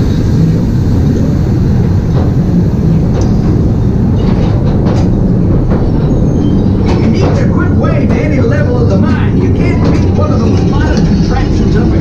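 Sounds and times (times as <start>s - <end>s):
ore cart train rolling on track: 0.0s - 12.0s.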